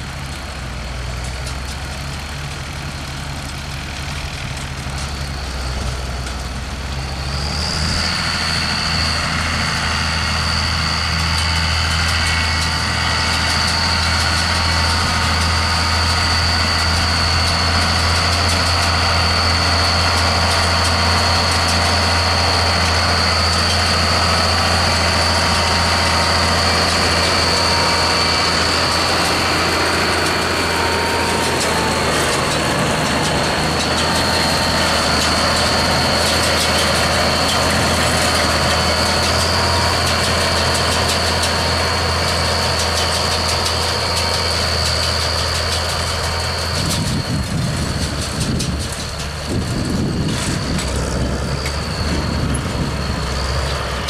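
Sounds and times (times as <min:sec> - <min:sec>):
tractor diesel engine running: 0:00.0 - 0:54.0
high-pitched whine: 0:04.0 - 0:54.0.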